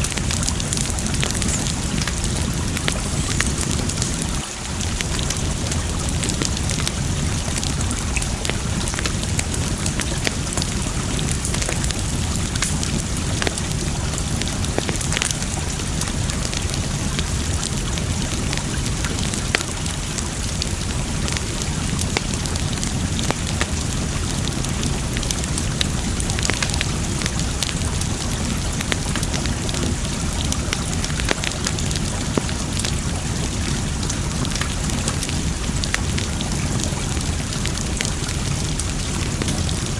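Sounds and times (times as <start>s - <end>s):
campfire crackling and popping: 0.0s - 39.9s
rushing water: 0.0s - 39.9s.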